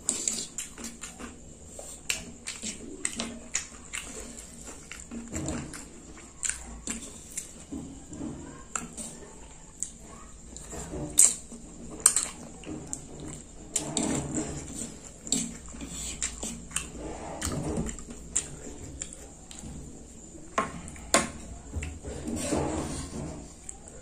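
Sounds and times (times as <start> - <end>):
noodles slurped and chewed: 0.0 - 24.0.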